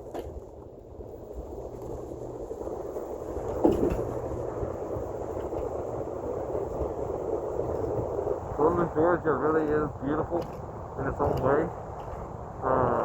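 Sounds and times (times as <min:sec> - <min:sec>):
wheels rumbling on pavement: 0:00.0 - 0:13.0
wind on microphone: 0:00.0 - 0:13.0.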